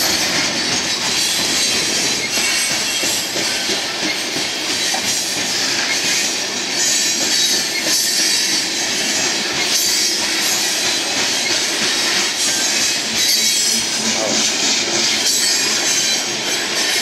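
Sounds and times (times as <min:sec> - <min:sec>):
high wheel squeal: 0:00.0 - 0:17.0
train wheels grinding on rails: 0:00.0 - 0:17.0.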